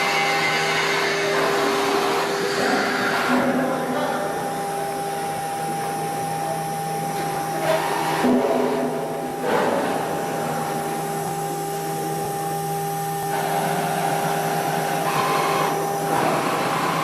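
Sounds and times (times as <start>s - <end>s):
router spindle whine: 0.0s - 8.3s, 8.9s - 17.0s.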